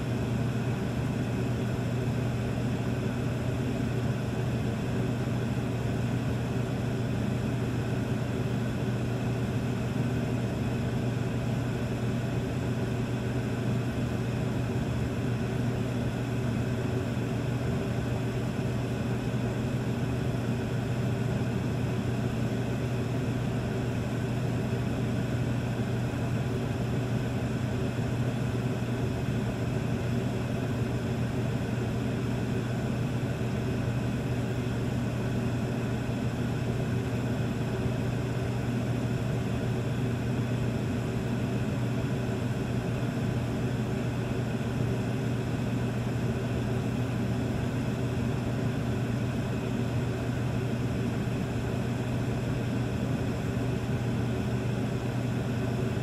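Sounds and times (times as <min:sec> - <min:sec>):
furnace low hum: 0:00.0 - 0:56.0.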